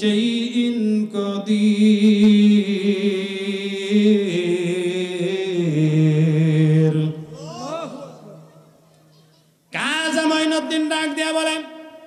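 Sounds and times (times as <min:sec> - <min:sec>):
man chanting into a microphone: 0:00.0 - 0:08.4, 0:09.7 - 0:12.0.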